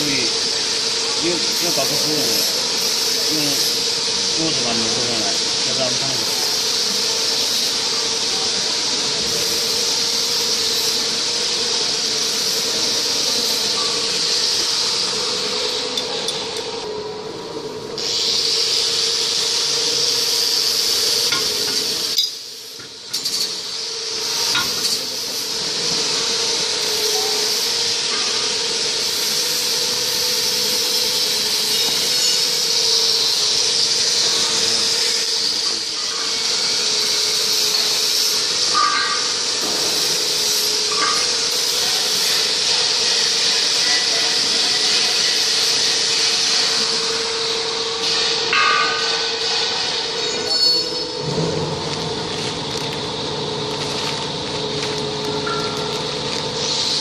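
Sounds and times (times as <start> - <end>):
machine hiss and hum: 0.0 - 57.0.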